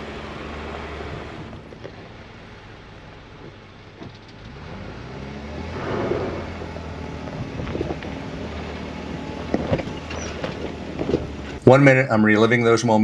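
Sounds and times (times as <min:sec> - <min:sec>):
vehicle engine running: 0:00.0 - 0:11.8.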